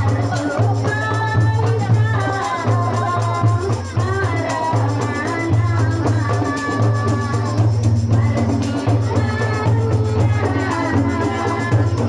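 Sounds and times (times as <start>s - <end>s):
jingling percussion: 0.0s - 12.0s
woman singing into microphone: 0.0s - 12.0s.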